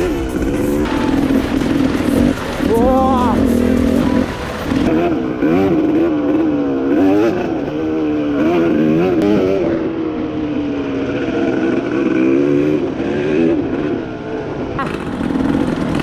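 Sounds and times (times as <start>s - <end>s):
dirt bike engine revving: 0.0s - 14.2s.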